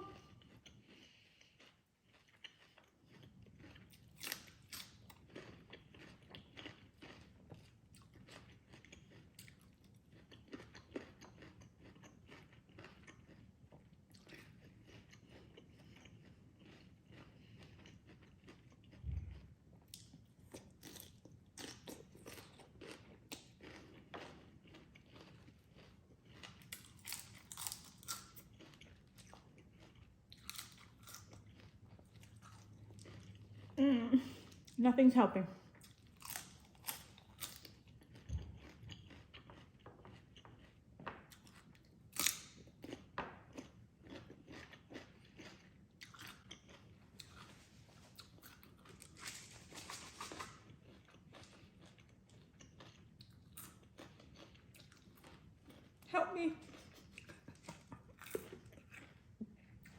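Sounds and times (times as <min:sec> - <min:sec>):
chewing crisp salad: 0:00.0 - 0:59.9.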